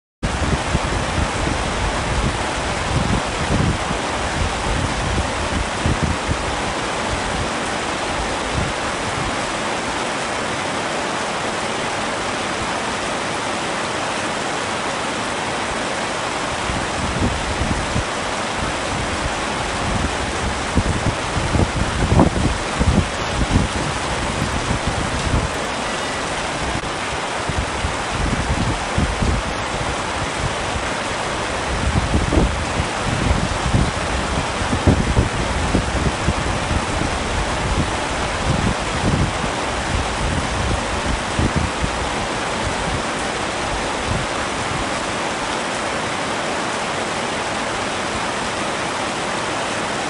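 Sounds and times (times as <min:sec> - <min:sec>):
heavy rain on a tent: 0:00.2 - 0:50.0
wind gusts: 0:00.2 - 0:50.0.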